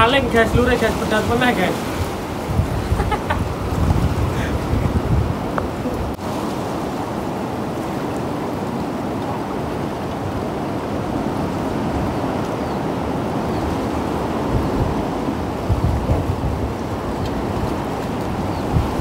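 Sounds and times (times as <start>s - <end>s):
surf washing around rocks: 0.0s - 19.0s.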